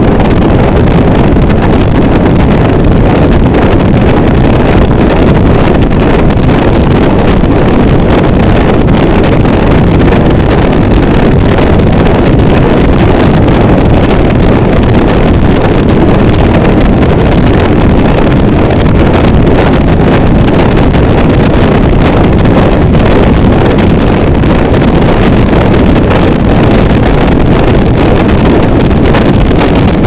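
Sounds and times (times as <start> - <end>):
distorted static noise: 0.0 - 30.0.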